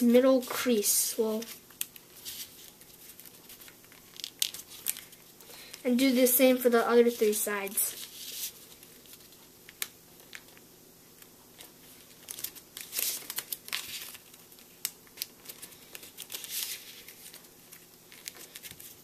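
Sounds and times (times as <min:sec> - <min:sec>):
paper being folded and creased: 0:00.2 - 0:05.2, 0:07.0 - 0:10.6, 0:11.5 - 0:19.0.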